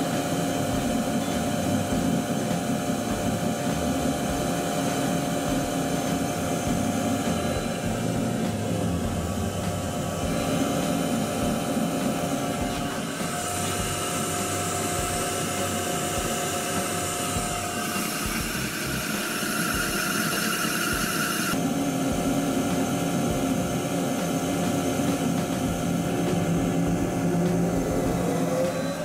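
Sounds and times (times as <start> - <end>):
machine motor whirring: 0.0 - 29.0.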